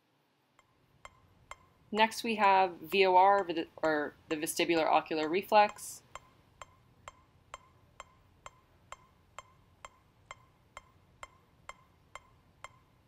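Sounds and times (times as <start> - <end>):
metronome clicking: 0.5 - 13.0.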